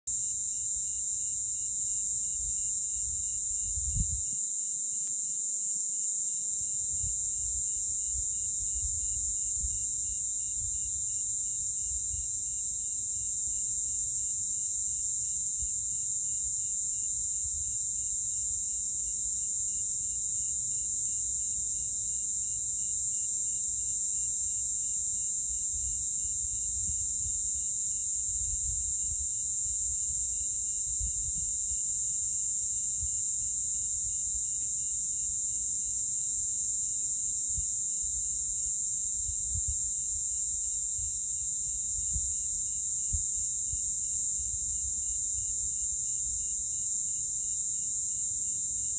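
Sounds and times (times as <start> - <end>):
insects droning: 0.1 - 48.9
pulsing insect trill: 0.1 - 48.9.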